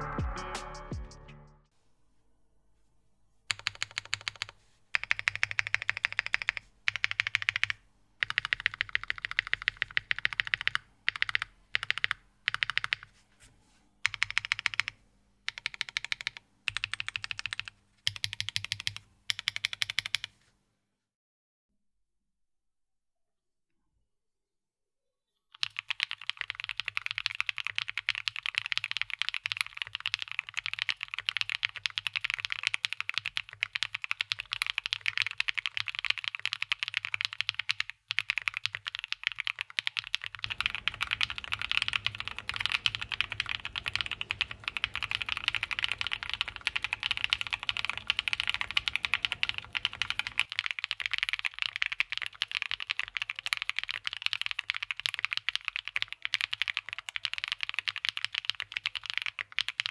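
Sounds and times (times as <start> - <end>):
mechanical keyboard typing: 3.5 - 13.1, 14.0 - 20.4, 25.6 - 59.9.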